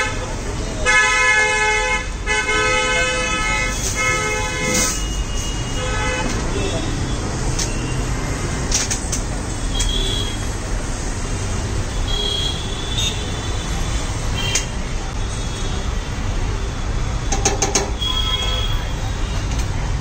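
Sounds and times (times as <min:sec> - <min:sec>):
roadside traffic rumble: 0:00.0 - 0:20.0.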